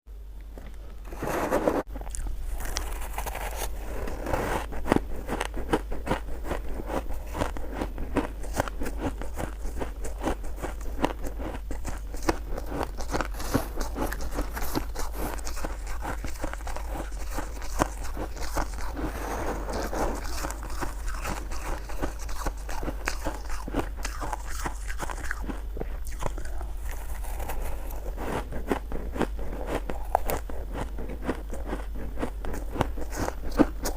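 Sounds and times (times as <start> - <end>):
steady low hum: 0.1 - 33.9
chewing shaved ice: 1.9 - 33.9.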